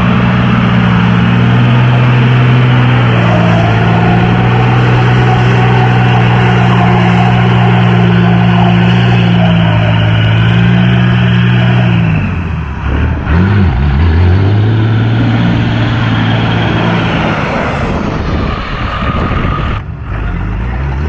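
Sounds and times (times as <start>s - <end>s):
diesel truck engine: 0.0s - 21.0s
road noise rushing: 0.0s - 21.0s.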